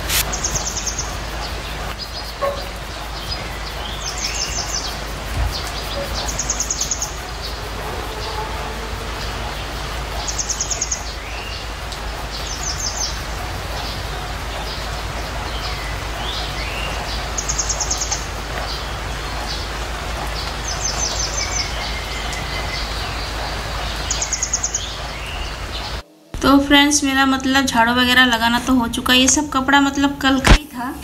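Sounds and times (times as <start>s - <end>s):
steady background hiss: 0.0s - 31.0s.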